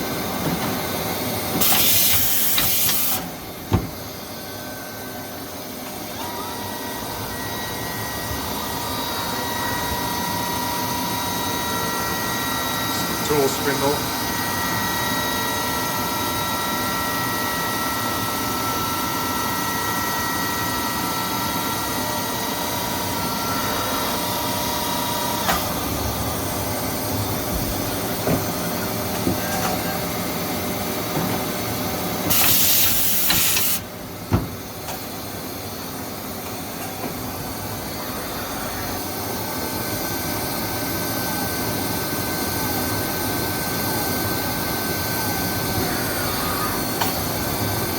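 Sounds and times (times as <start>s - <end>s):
machine spindle whine: 0.0s - 47.9s.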